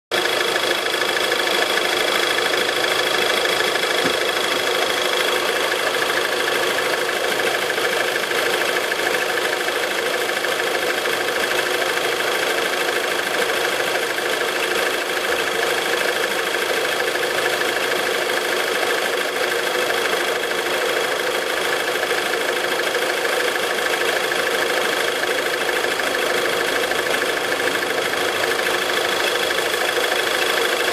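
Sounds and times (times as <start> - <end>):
car engine idling: 0.1 - 30.9.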